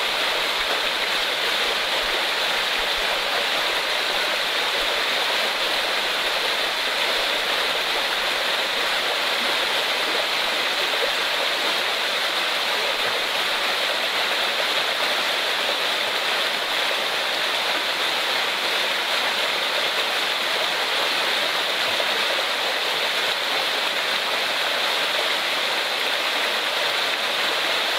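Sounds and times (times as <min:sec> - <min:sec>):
stream rushing over rocks: 0:00.0 - 0:27.9.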